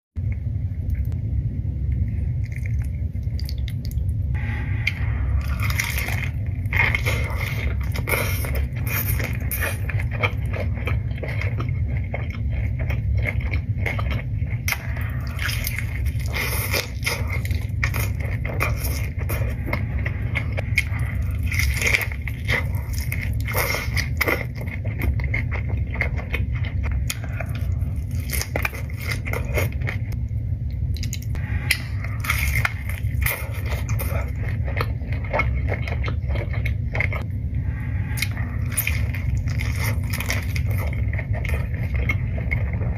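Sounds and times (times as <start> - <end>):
low hum: 0.2 - 42.9
wet chewing and crackling: 0.2 - 42.9.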